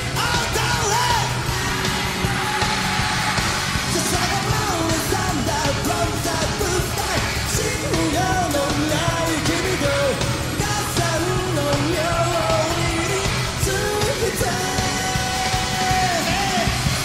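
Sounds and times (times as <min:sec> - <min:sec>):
person singing: 0:00.0 - 0:17.0
rock band playing loudly: 0:00.0 - 0:17.0.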